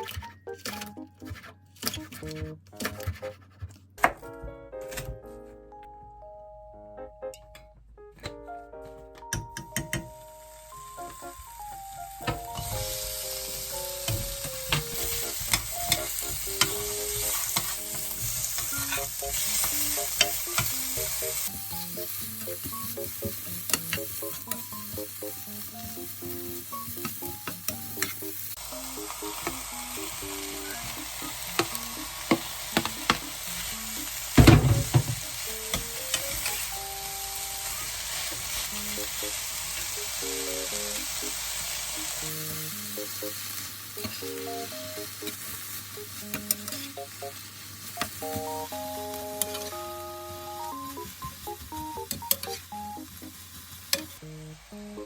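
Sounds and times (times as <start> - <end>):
light background music: 0.0 - 55.0
food sizzling in frying pan: 9.8 - 55.0.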